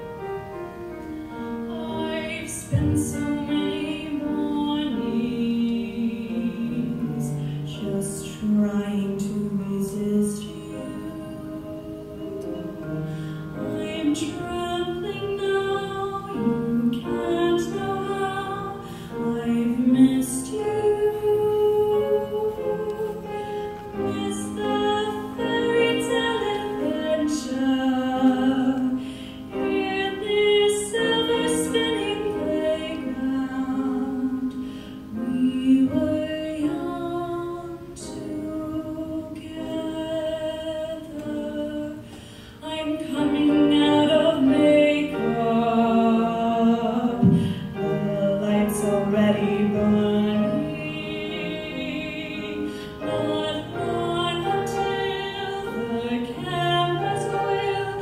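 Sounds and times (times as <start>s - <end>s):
woman singing classically: 1.6s - 58.0s.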